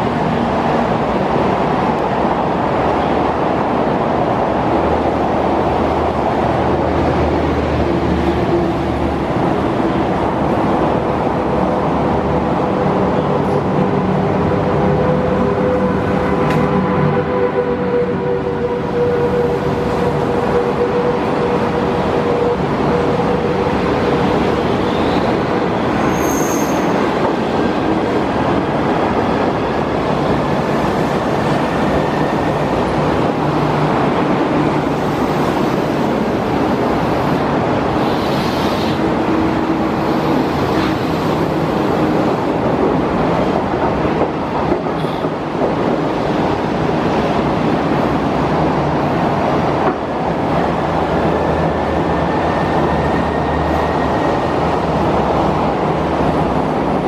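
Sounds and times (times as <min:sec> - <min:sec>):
train wheels rushing on rail: 0:00.0 - 0:57.0.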